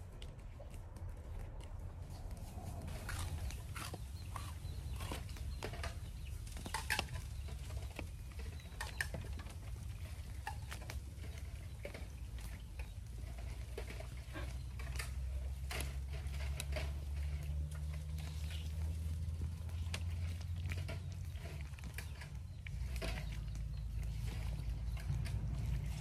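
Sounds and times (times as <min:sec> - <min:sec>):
steady low rumble: 0:00.0 - 0:15.5, 0:16.7 - 0:26.0.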